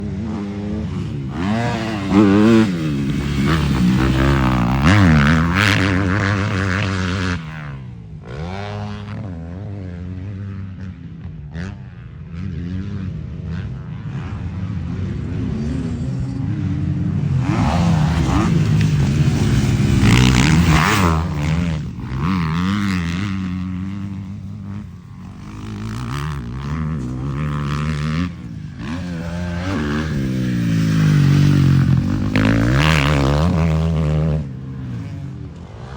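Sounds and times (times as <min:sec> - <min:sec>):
motocross bike engine revving: 0:00.0 - 0:10.4, 0:13.7 - 0:35.9.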